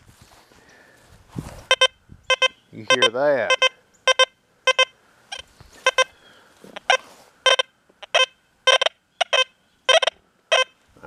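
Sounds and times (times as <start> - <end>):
metal detector beeping: 1.7 - 10.8.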